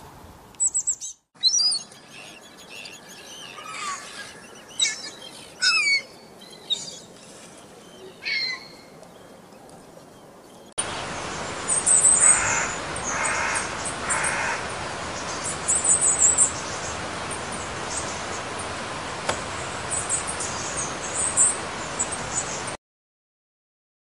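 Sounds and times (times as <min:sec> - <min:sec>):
harsh bird calls: 0:00.6 - 0:09.4, 0:10.5 - 0:22.8
small birds twittering: 0:00.6 - 0:22.8.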